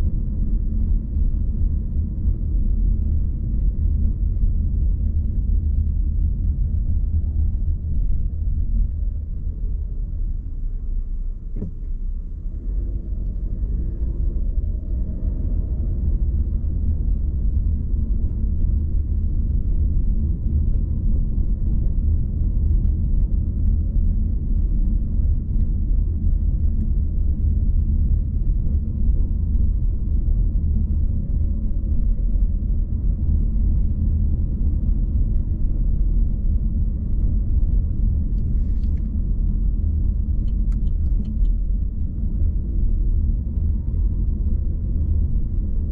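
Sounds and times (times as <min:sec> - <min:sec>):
car road and engine rumble: 0:00.0 - 0:45.9
faint engine tone: 0:00.0 - 0:45.9.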